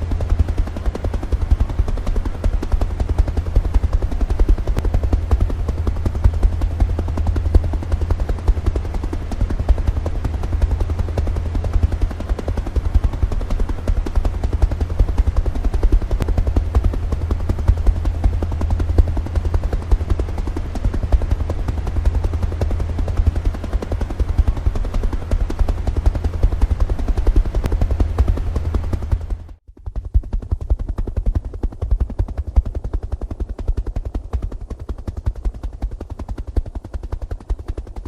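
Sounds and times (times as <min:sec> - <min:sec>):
helicopter rotor chopping: 0:00.0 - 0:38.0.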